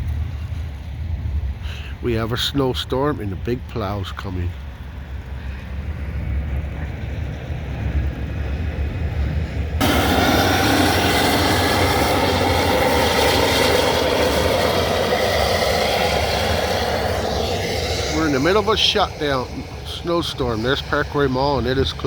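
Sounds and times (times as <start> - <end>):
low vehicle rumble: 0.0 - 22.0
rush of wind-like noise: 0.0 - 22.0.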